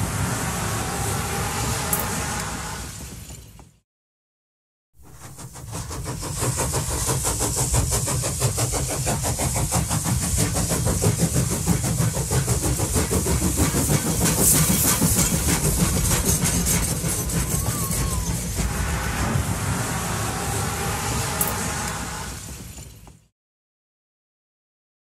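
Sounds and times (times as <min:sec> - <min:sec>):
high steam hiss: 0:00.0 - 0:03.4, 0:05.0 - 0:23.2
train wheels rumbling on rail: 0:00.0 - 0:03.8, 0:05.0 - 0:23.3.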